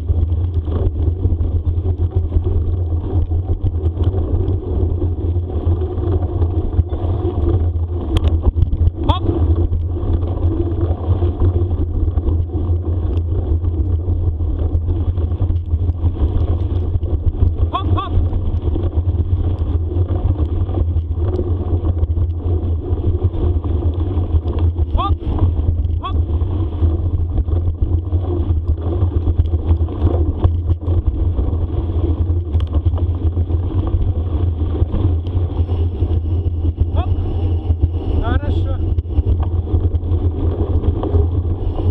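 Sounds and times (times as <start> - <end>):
bicycle tyres rumbling on trail: 0.0 - 41.9
wind buffeting microphone: 0.0 - 41.9.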